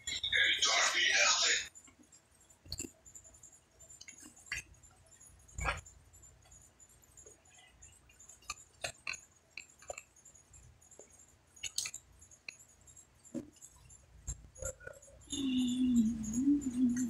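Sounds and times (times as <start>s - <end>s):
faint chewing clicks: 1.8s - 6.6s, 7.2s - 17.0s.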